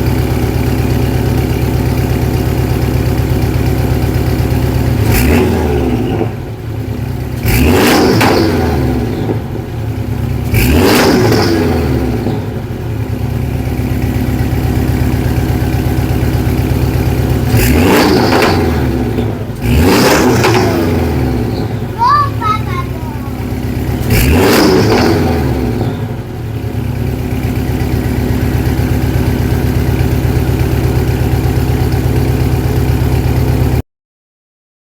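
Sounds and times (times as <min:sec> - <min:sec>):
car engine idling and revving: 0:00.0 - 0:33.8.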